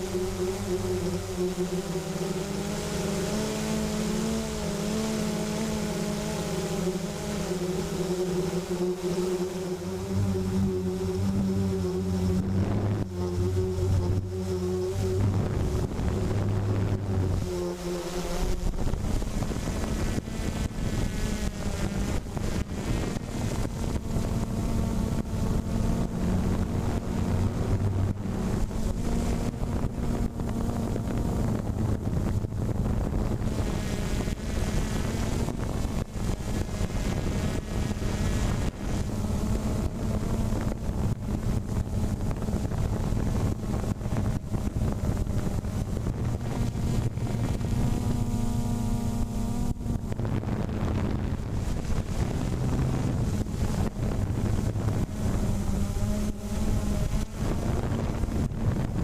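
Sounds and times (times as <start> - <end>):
motor hum: 0.0 - 59.0
wind buffeting microphone: 9.1 - 59.0.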